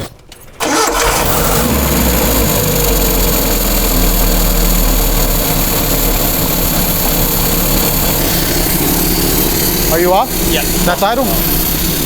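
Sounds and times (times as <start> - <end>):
pickup truck engine idling: 0.6 - 12.0.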